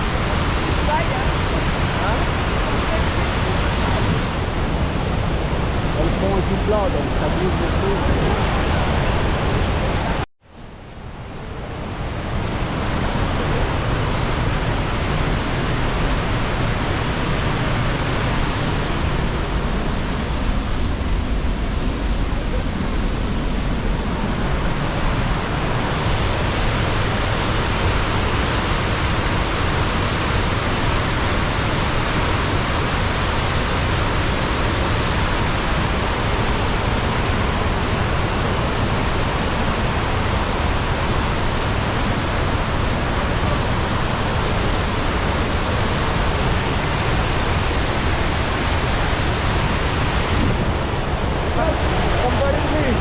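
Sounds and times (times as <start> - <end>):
waterfall rushing: 0.0 - 10.2, 12.1 - 53.0.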